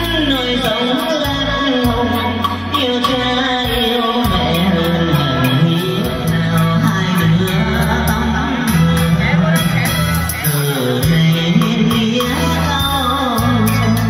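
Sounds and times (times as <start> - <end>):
music with beat and bass: 0.0 - 14.0
person singing: 0.0 - 14.0.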